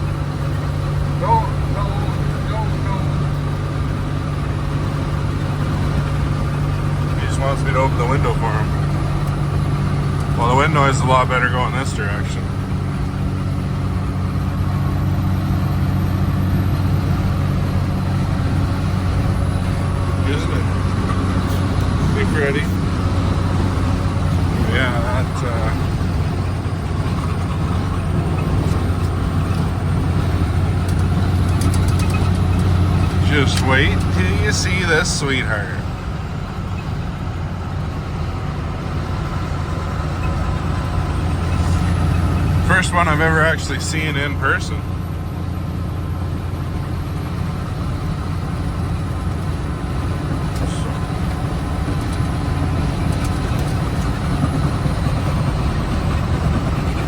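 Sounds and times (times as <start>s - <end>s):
engine drone: 0.0s - 57.0s
faint steady whine: 0.0s - 57.0s
wind and road noise in cab: 0.0s - 57.0s.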